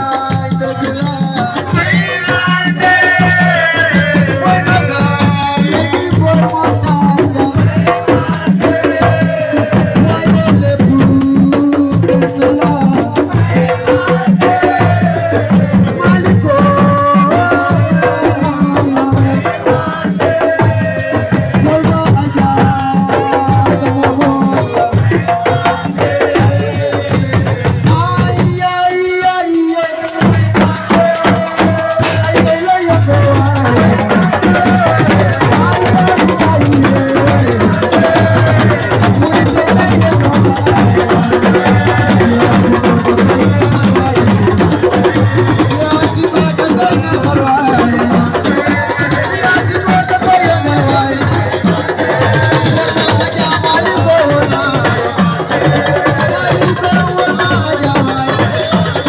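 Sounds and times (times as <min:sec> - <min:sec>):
band music with dense drums: 0:00.0 - 0:59.0.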